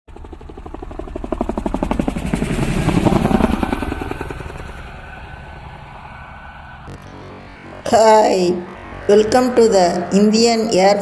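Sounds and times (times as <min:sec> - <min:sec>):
helicopter rotor beating: 0:00.1 - 0:11.0.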